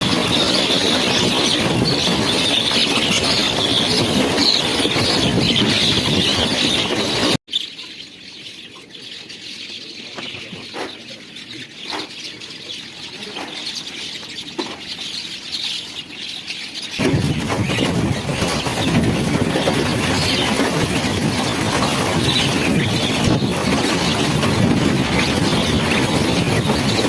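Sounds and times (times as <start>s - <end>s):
birds chattering and calling: 0.0s - 27.0s.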